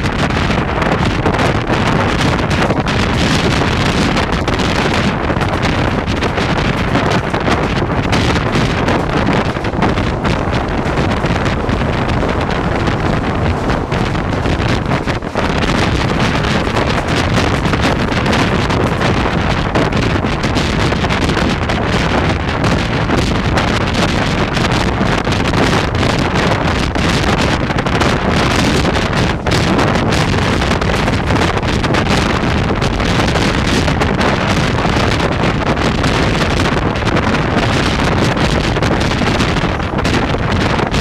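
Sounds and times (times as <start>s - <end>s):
train running on track: 0.0s - 41.0s
wind buffeting microphone: 0.0s - 41.0s.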